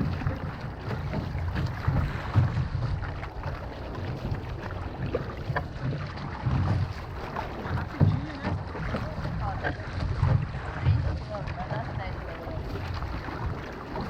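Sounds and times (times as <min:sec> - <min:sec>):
water around canoe: 0:00.0 - 0:14.0
wind buffeting microphone: 0:00.0 - 0:14.0.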